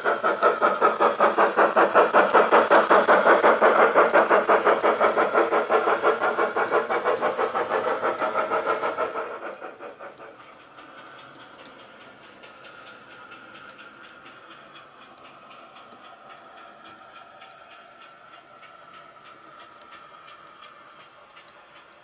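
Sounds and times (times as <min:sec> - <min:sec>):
model steam locomotive chuffing: 0:00.0 - 0:22.0.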